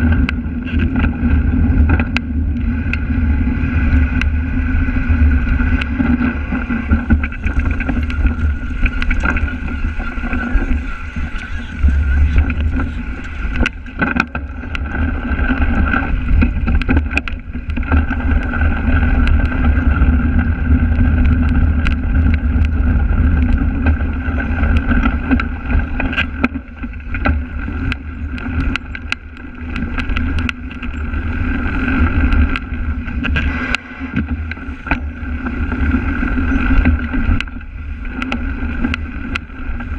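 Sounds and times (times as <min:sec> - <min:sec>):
bike knocks and rattles: 0:00.0 - 0:39.9
wind buffeting microphone: 0:00.0 - 0:39.9.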